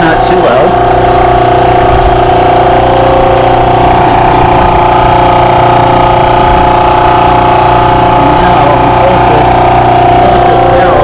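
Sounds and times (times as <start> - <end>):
electric motor and pump humming: 0.0 - 11.0.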